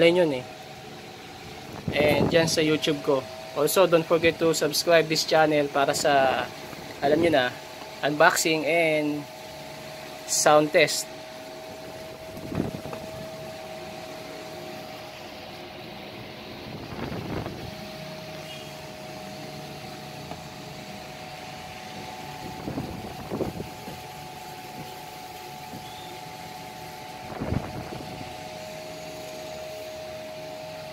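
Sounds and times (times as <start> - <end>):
steady fan-like hum: 0.0 - 30.9.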